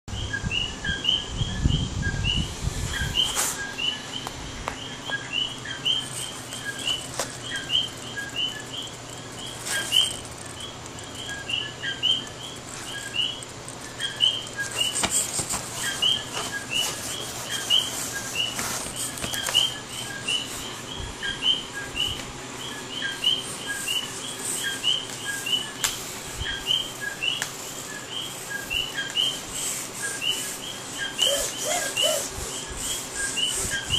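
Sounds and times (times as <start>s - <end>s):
small bird chirping: 0.1s - 33.9s.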